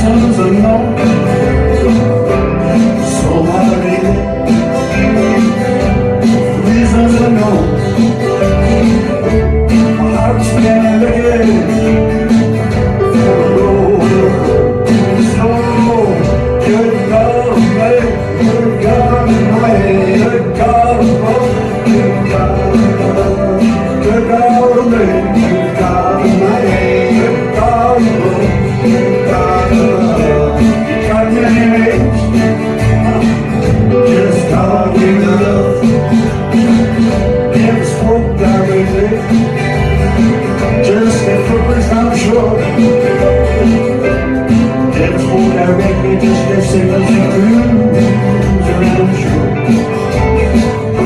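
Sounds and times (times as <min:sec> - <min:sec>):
electric guitar: 0:00.0 - 0:51.0
live band playing amplified music: 0:00.0 - 0:51.0
strummed acoustic guitars: 0:00.0 - 0:51.0.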